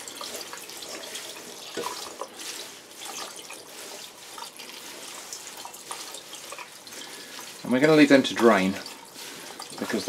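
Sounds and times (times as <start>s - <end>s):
tap water running into colander: 0.0s - 10.0s.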